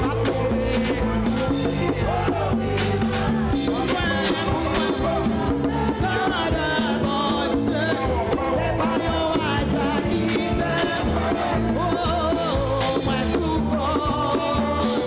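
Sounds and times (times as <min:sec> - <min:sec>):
bass: 0:00.0 - 0:15.0
drum beat: 0:00.0 - 0:15.0
singing melody: 0:00.0 - 0:15.0.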